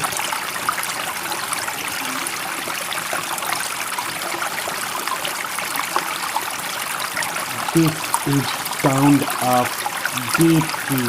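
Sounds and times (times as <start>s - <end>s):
water rushing and trickling: 0.0s - 11.0s.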